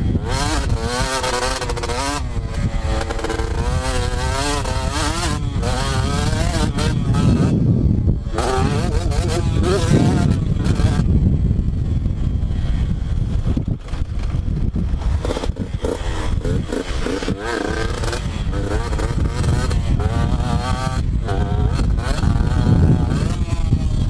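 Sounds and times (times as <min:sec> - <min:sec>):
two-stroke dirt bike revving: 0:00.0 - 0:24.0
heavy low rumble: 0:02.2 - 0:24.0.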